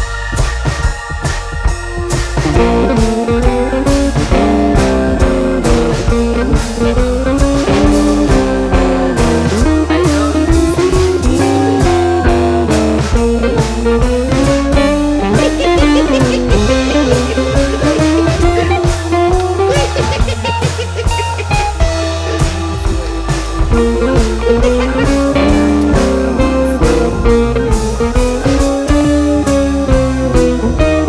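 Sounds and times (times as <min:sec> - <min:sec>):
blues guitar melody: 0:00.0 - 0:31.0
drums: 0:00.0 - 0:31.0.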